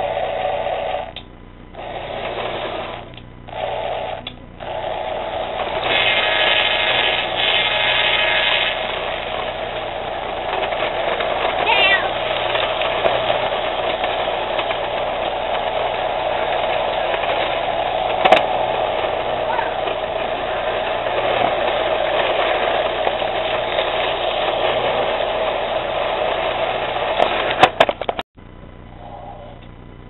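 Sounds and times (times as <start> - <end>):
toy train motor hum: 0.0 - 28.2.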